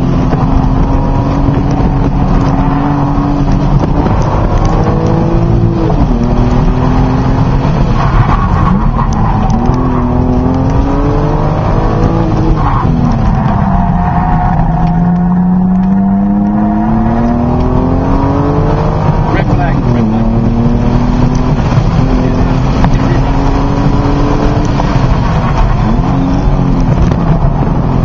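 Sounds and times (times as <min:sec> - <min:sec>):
car engine accelerating: 0:00.0 - 0:28.0
road and wind noise: 0:00.0 - 0:28.0.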